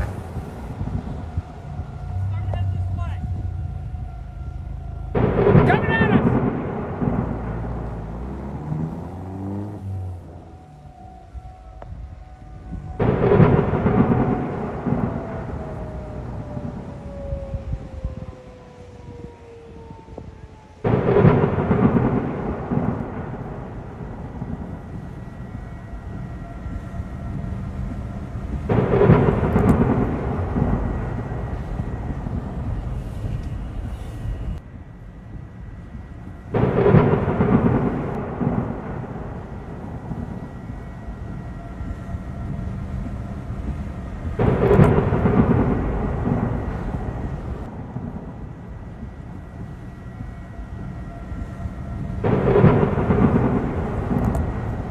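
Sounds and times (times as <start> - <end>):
steady rushing noise: 0.0 - 19.1, 20.2 - 54.9
thunder rumbling: 0.0 - 54.9.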